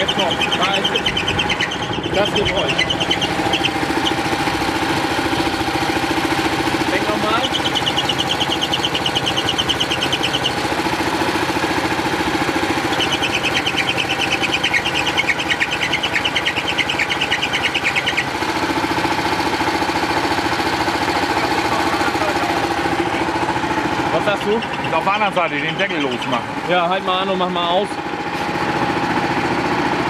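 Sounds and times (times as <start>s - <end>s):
high-pitched belt squeal: 0.0s - 27.8s
engine running steadily: 0.0s - 30.0s.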